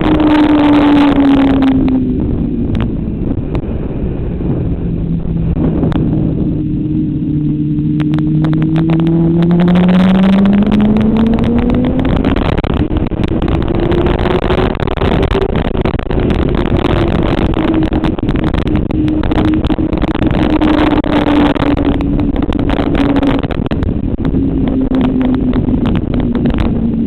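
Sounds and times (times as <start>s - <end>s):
motorcycle engine accelerating: 0.0s - 27.0s
wind rush: 0.0s - 27.0s.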